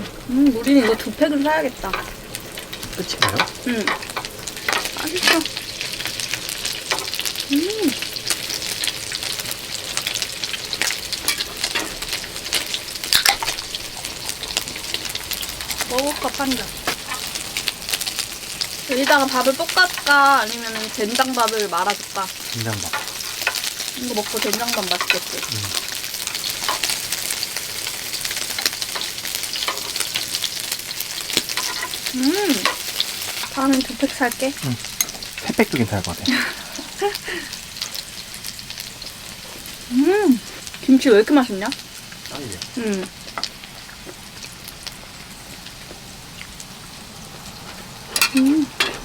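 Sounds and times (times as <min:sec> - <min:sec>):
meat sizzling in a hot pan: 0:00.0 - 0:49.0.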